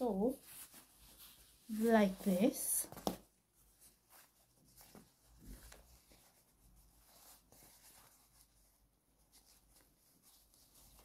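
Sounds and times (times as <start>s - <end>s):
fabric rustling: 0.0s - 11.0s.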